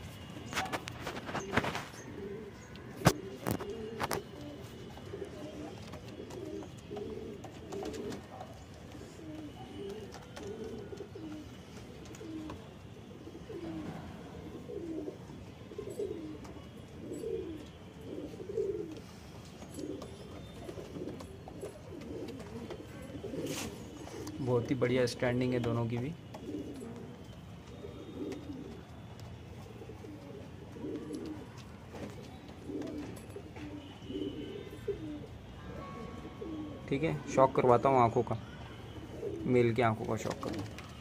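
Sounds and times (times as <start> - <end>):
pigeons cooing: 0.0 - 41.0.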